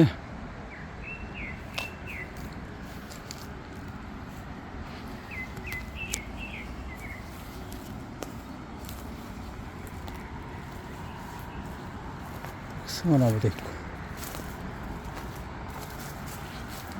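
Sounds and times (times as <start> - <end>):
low outdoor background noise: 0.0 - 16.9
small bird chirping: 0.7 - 16.9.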